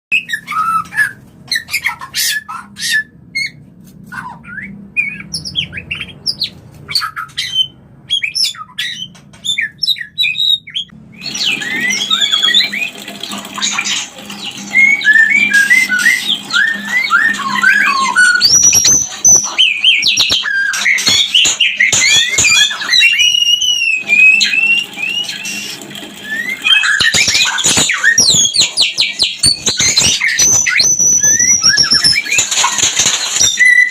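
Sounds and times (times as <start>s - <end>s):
bird whistled calls: 0.1s - 13.0s, 13.6s - 33.9s.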